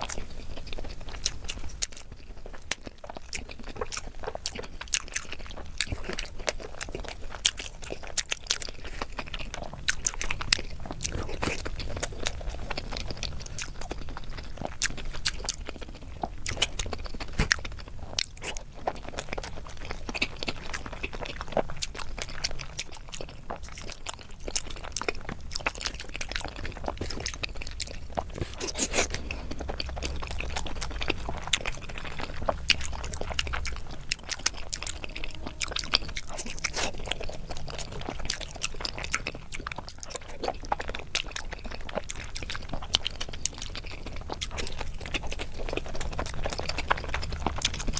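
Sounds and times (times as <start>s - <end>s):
chewing and biting food: 0.0s - 47.9s.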